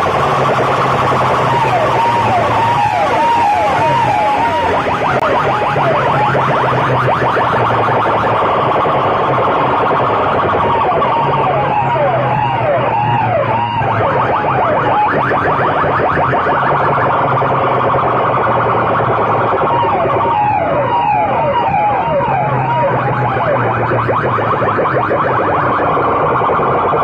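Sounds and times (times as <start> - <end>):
loud electronic siren wailing: 0.0 - 27.0.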